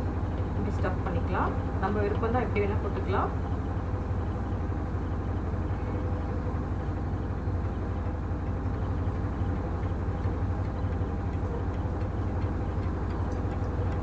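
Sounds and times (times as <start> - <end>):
low hum with light hiss: 0.0 - 14.0.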